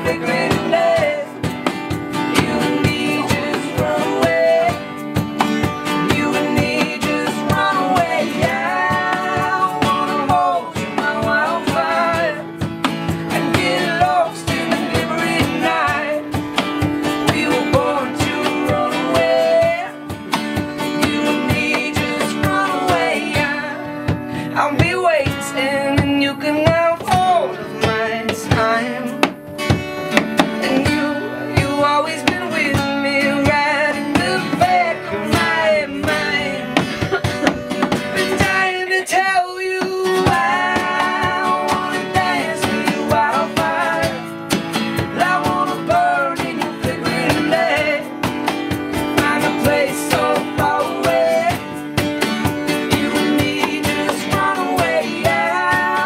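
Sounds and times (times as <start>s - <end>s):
man singing: 0.0s - 5.0s, 5.9s - 12.6s, 13.2s - 20.1s, 21.0s - 29.4s, 30.4s - 44.4s, 45.0s - 48.2s, 49.0s - 51.8s, 52.8s - 56.0s
strummed acoustic guitars: 0.0s - 56.0s.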